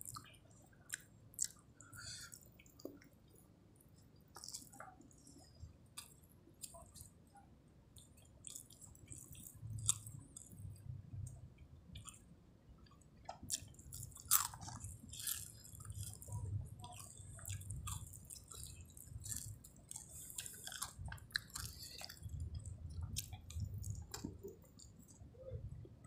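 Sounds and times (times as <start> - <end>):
chewing food: 0.0 - 7.2, 7.9 - 25.8.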